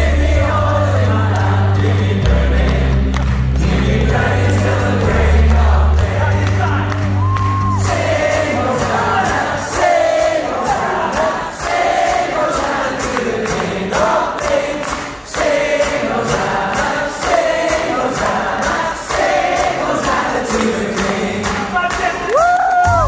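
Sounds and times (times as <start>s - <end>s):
audience singing in chorus: 0.0s - 22.0s.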